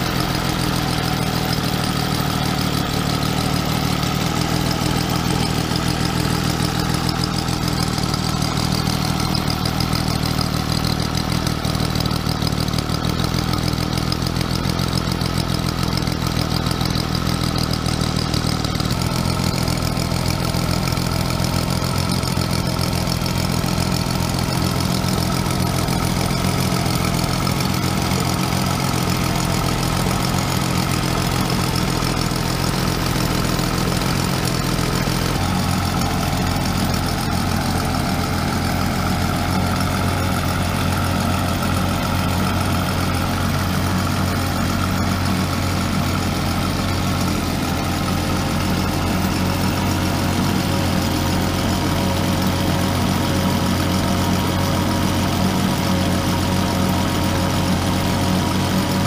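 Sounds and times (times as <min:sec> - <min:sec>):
model diesel engine running: 0:00.0 - 0:59.0.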